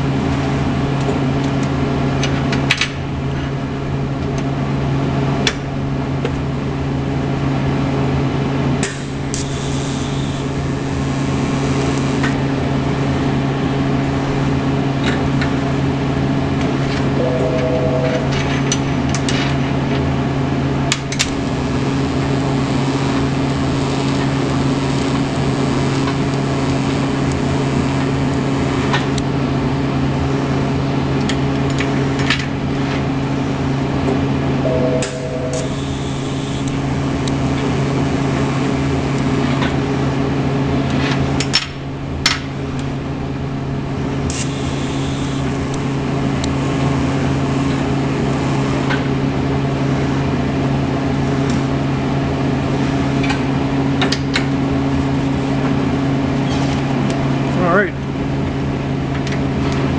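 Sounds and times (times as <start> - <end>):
electrical machine hum: 0.0 - 59.9.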